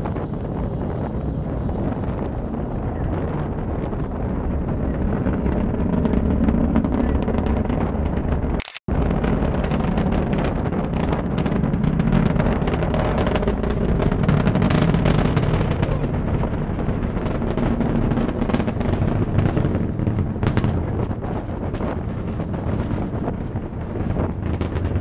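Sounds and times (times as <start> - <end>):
rocket engines rumbling and crackling: 0.0 - 25.0.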